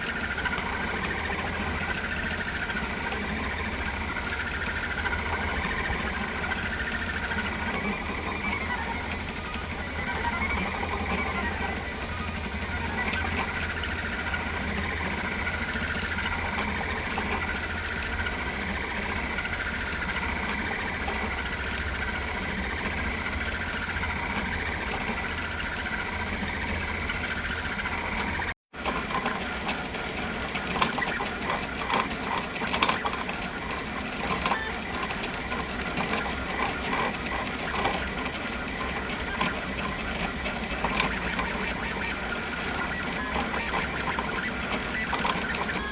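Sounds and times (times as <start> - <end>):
printer clicking and rattling: 0.0 - 45.9
stepper motors whining: 0.0 - 45.9.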